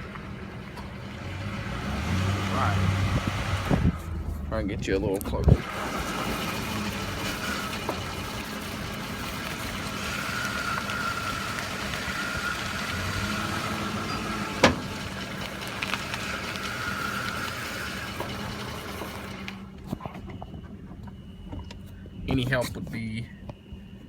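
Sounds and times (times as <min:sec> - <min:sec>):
truck running at low speed: 0:00.0 - 0:24.0.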